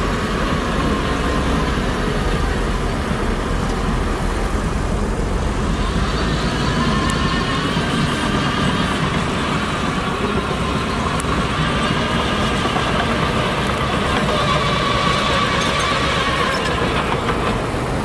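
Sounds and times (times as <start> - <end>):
diesel earthmoving machinery running: 0.0 - 18.0.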